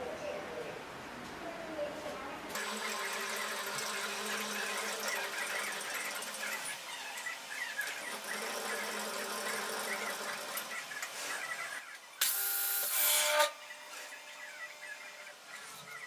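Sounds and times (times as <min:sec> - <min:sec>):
table saw blade whining: 0:02.6 - 0:16.0.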